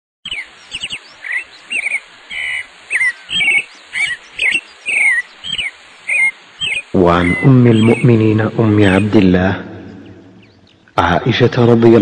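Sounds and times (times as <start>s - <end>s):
bird chirping: 0.2s - 12.0s.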